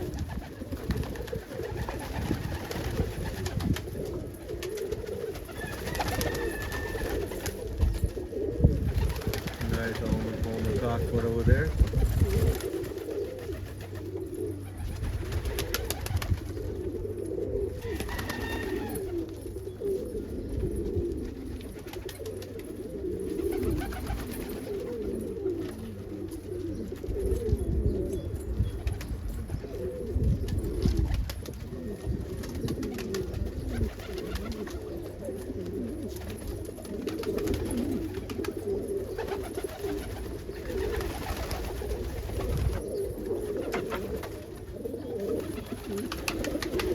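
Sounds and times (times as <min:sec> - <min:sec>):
pigeons cooing: 0:00.0 - 0:46.9.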